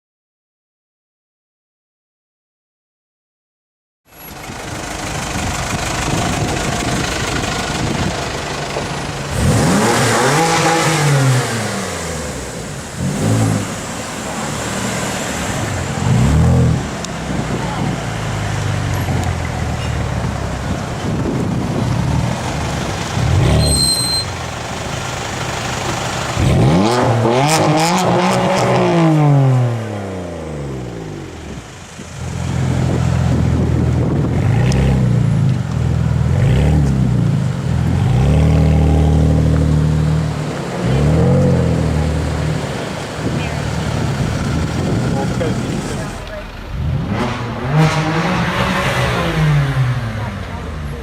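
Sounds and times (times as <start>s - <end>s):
loud car engine revving: 4.8s - 51.0s.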